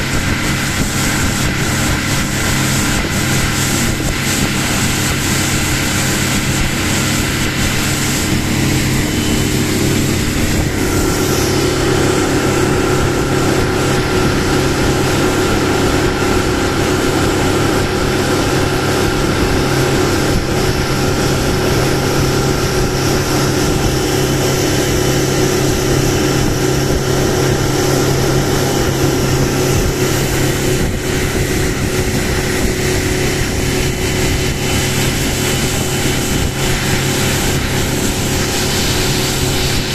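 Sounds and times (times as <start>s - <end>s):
outboard motor drone: 0.0s - 39.9s
rushing water hiss: 0.0s - 39.9s.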